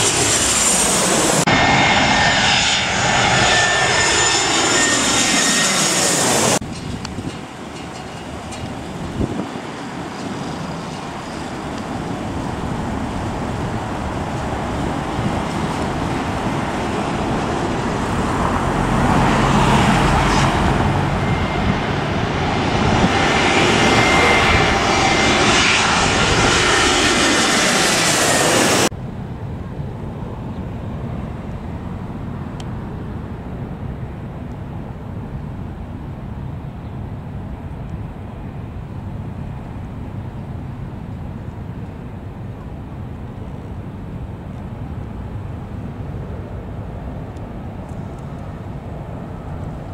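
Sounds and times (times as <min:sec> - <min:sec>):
distant jet rumble: 0:00.0 - 0:49.9
jet engine passing overhead: 0:00.0 - 0:49.9.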